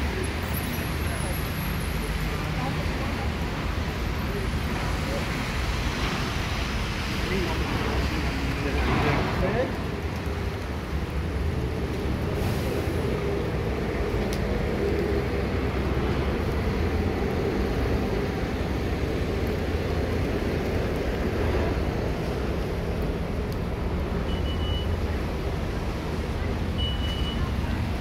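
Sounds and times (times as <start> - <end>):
low traffic rumble: 0.0 - 28.0
tyres hissing on wet road: 0.0 - 28.0.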